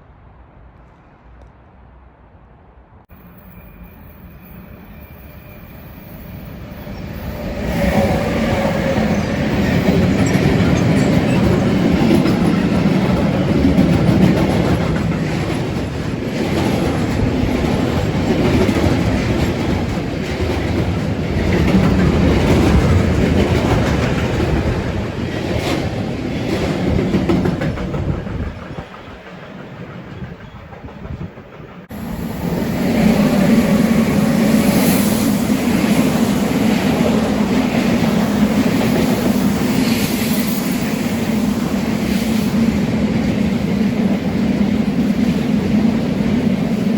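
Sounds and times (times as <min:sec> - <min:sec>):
train passing with clattering wheels: 0:00.0 - 0:46.9.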